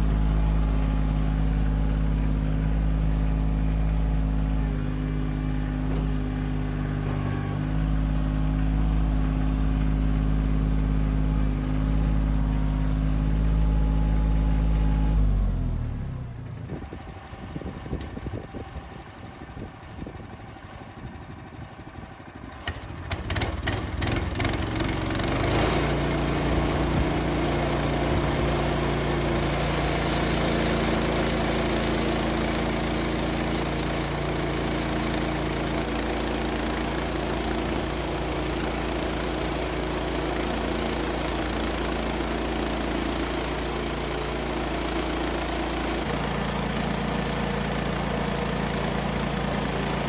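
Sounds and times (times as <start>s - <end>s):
diesel tractor engine running: 0.0s - 50.0s.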